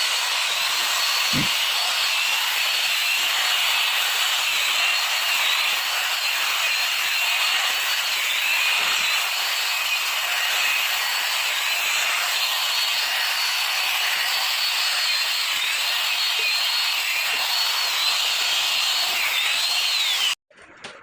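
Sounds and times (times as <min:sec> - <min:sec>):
power tool whining: 0:00.0 - 0:20.4.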